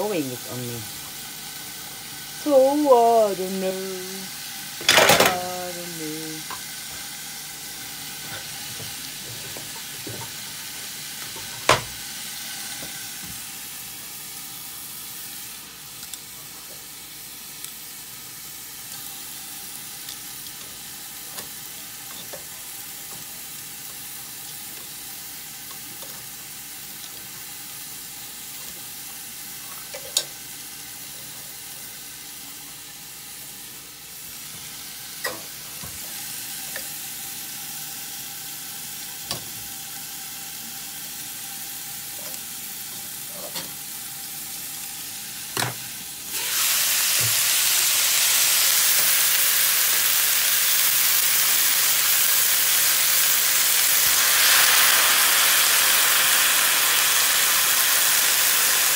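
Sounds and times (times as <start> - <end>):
stew sizzling in a pot: 0.0 - 58.9.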